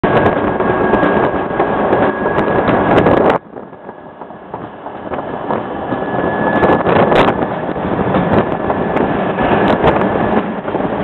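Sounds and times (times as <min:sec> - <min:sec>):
high whine: 0:00.0 - 0:11.0
train rumbling on rails: 0:00.0 - 0:11.0.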